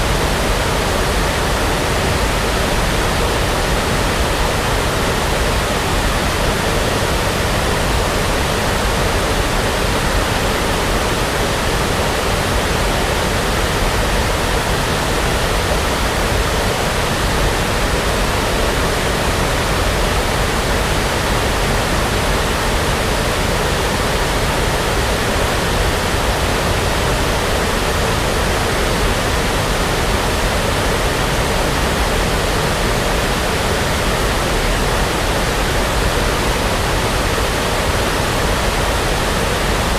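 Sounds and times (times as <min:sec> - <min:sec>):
brown noise hiss-rumble: 0:00.0 - 0:39.9.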